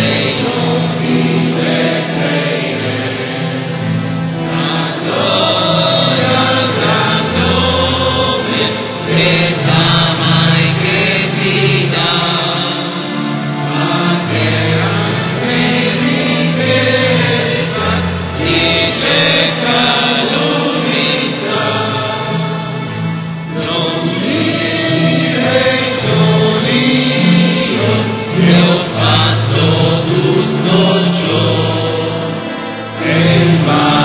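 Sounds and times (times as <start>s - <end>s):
congregation singing a hymn: 0.0s - 34.0s.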